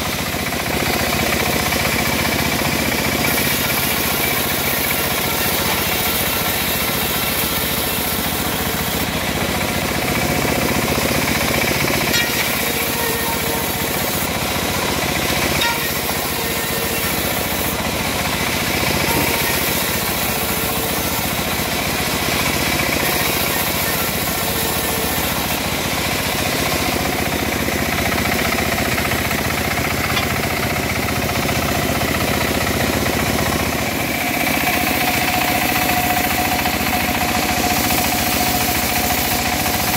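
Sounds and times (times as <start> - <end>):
band saw cutting wood: 0.0 - 39.9
sawmill engine running: 0.0 - 39.9.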